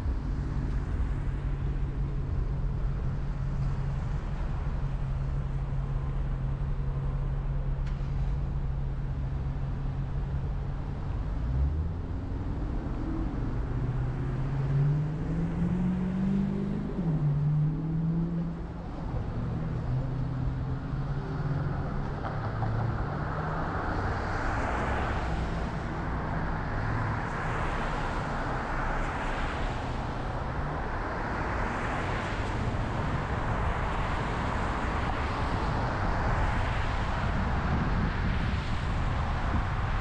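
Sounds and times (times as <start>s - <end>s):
tyre road noise: 0.0s - 40.0s.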